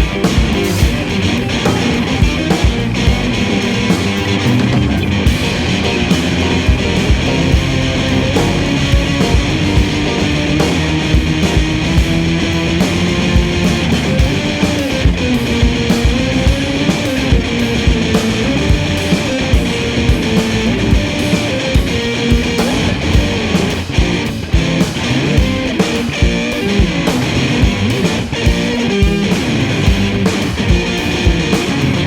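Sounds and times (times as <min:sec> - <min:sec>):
bass and guitar: 0:00.0 - 0:32.0
drum kit beat: 0:00.0 - 0:32.0
held melody line: 0:00.0 - 0:32.0.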